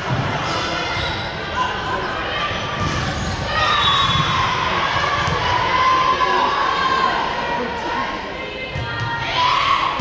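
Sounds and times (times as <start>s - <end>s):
spectators cheering and shouting: 0.0s - 10.0s.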